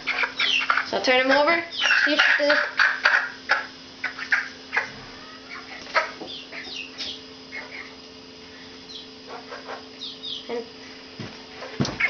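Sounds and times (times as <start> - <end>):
chicks peeping: 0.0 - 10.7
steady low hum: 0.0 - 12.0.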